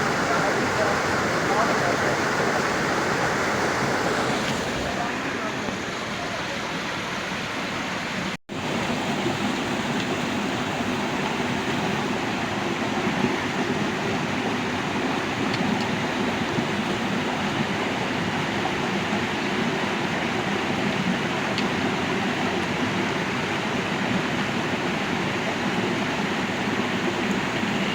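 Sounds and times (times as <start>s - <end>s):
flowing water rushing: 0.0s - 27.9s.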